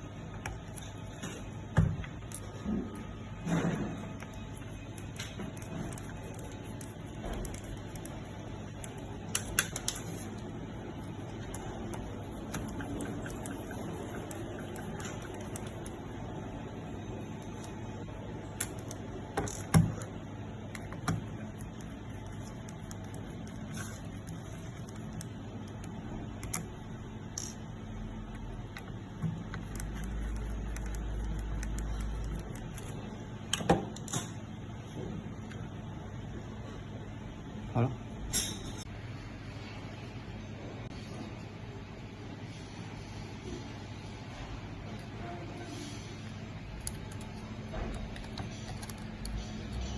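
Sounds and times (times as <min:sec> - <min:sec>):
steady background hum: 0:00.0 - 0:49.9.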